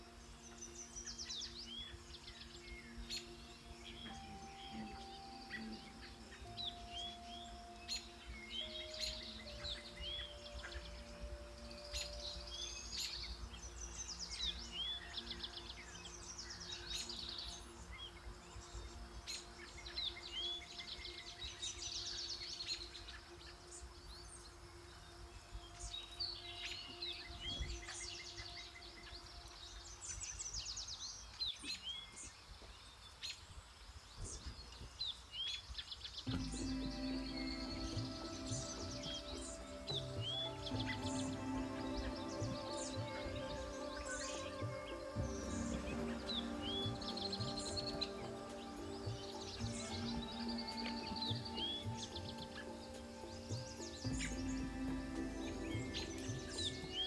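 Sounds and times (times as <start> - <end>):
soft held low tones: 0.0 - 30.6, 36.2 - 57.0
songbirds chirping and singing: 0.0 - 57.0.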